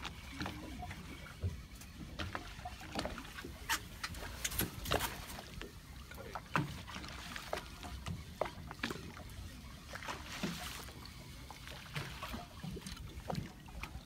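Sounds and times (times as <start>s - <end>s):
water lapping against boat: 0.0s - 14.0s.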